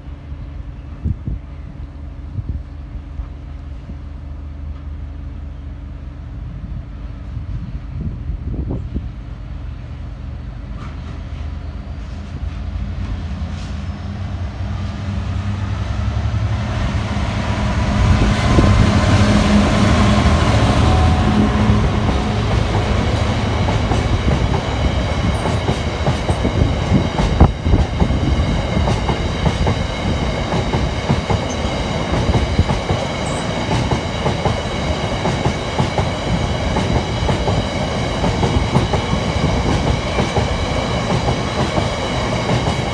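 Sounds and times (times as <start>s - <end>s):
diesel locomotive passing: 0.0s - 42.9s.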